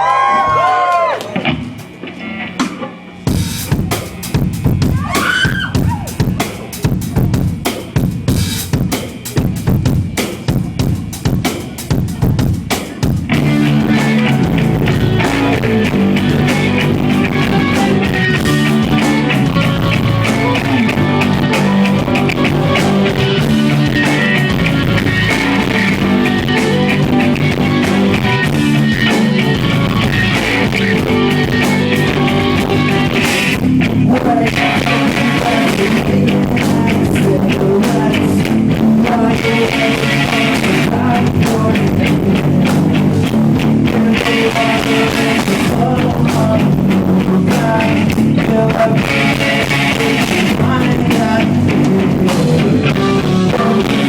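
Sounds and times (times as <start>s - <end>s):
electric guitars and bass: 0.0s - 54.0s
drum kit playing: 0.3s - 54.0s.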